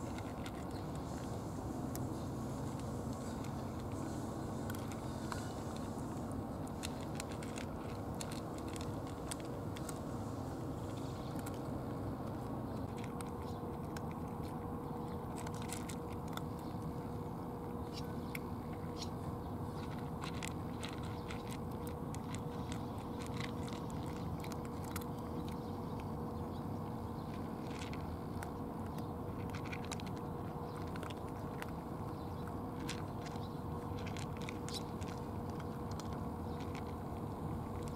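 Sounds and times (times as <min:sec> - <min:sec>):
cats crunching dry kibble: 0:00.0 - 0:37.9
low background hum: 0:00.0 - 0:37.9.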